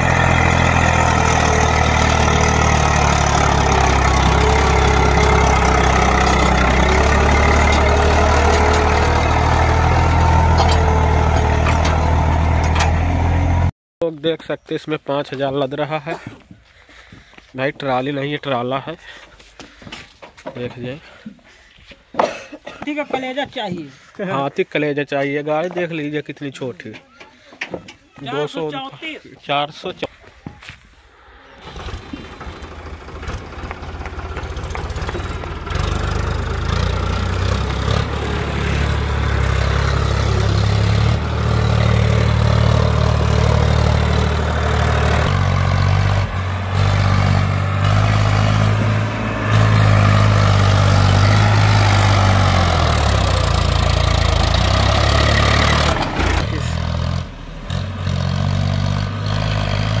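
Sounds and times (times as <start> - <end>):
tractor diesel engine under load: 0.0 - 13.7, 23.0 - 60.0.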